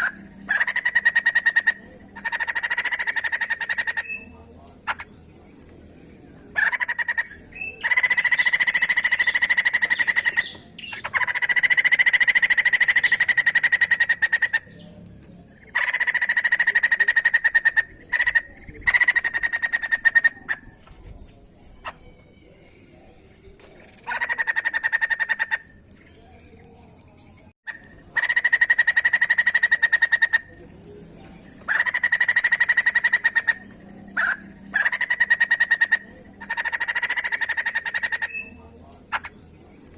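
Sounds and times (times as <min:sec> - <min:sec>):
bird chattering calls: 0:00.0 - 0:22.5, 0:23.3 - 0:39.9.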